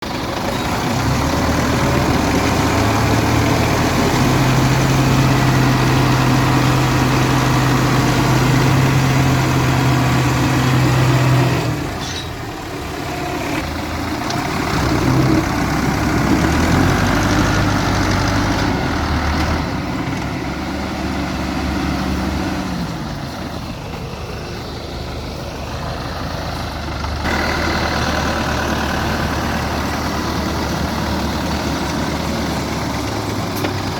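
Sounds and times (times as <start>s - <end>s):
tractor diesel engines under load: 0.0s - 33.9s.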